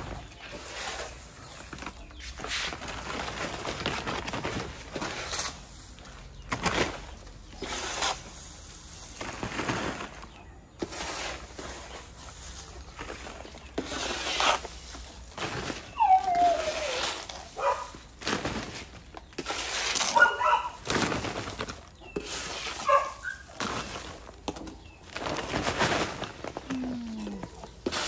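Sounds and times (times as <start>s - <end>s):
dustpan scooping dry leaves: 0.0s - 28.0s
plastic sack crinkling: 0.0s - 28.0s.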